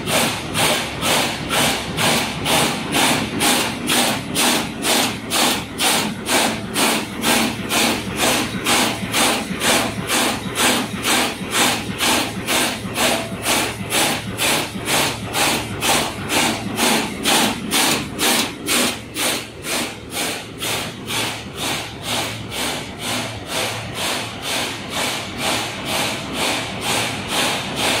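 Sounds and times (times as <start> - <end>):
machine humming: 0.0 - 28.0
press machine beating: 0.0 - 28.0.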